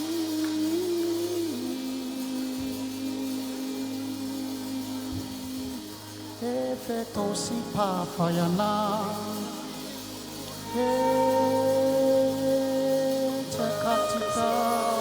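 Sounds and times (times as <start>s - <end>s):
live worship band music: 0.0s - 15.0s
melodic line with bends and vibrato: 0.0s - 15.0s.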